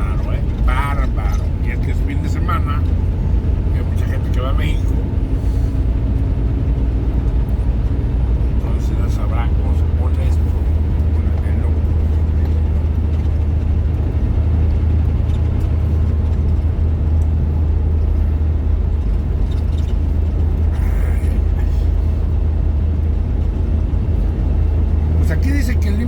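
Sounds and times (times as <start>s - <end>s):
engine and road noise in cab: 0.0s - 26.0s.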